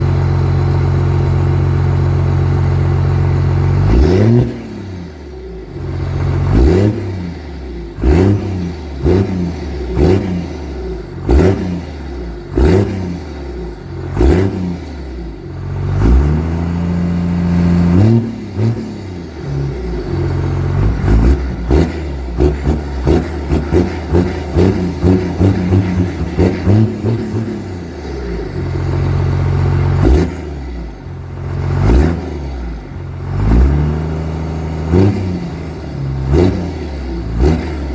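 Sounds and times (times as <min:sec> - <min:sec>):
diesel engine idling and revving: 0:00.0 - 0:37.9.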